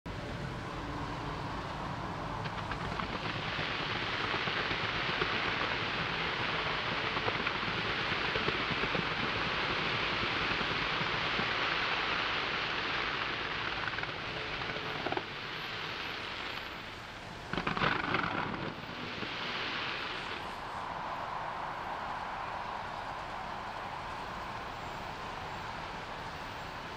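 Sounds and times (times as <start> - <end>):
distant fireworks crackling: 0.1 - 26.9
low rumble of firework bursts: 0.1 - 26.9
firework bangs: 2.1 - 26.9.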